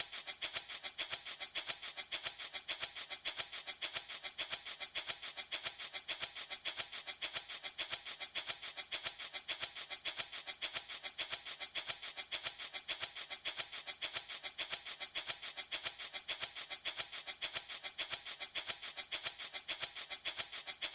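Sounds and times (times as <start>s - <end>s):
baby rattle shaking: 0.0s - 20.9s.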